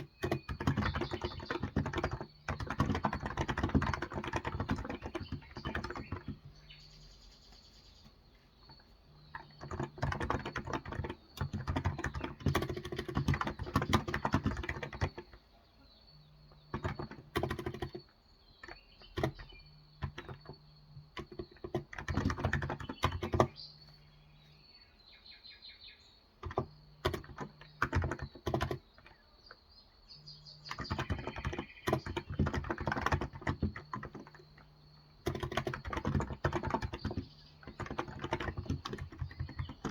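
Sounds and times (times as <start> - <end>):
keyboard typing clicks: 0.0 - 6.8, 7.5 - 15.5, 16.2 - 24.6, 26.3 - 39.9
birds chirping: 0.0 - 39.9.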